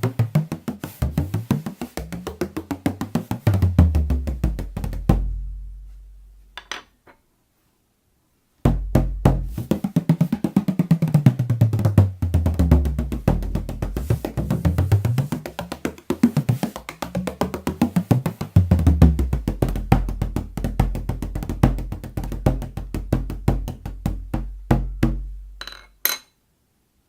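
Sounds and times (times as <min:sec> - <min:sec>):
frame drum rapid strokes: 0:00.0 - 0:05.4, 0:08.7 - 0:25.4
light drum taps: 0:00.0 - 0:06.0, 0:08.7 - 0:25.2.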